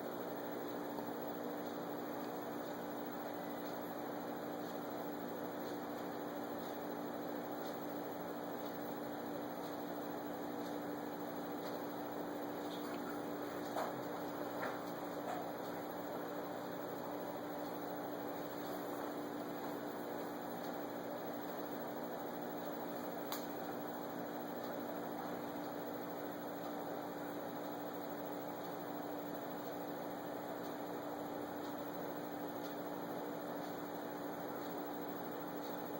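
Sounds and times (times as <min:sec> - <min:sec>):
low electrical hum: 0:00.0 - 0:35.9.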